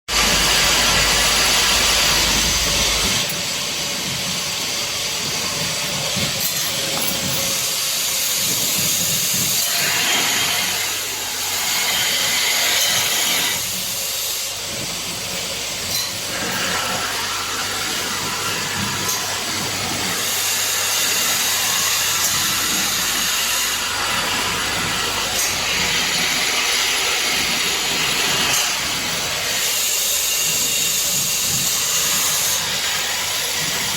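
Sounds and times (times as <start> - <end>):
assembly machine running: 0.1 - 33.9.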